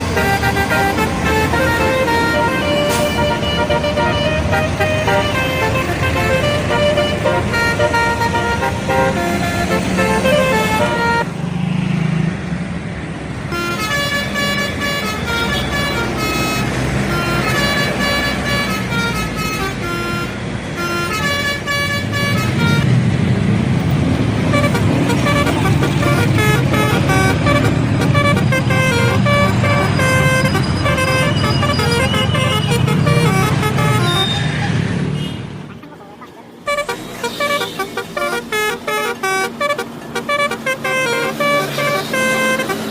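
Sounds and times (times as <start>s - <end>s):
bus horns playing melodies: 0.0s - 11.4s, 13.4s - 42.9s
bus engine noise: 0.0s - 42.9s.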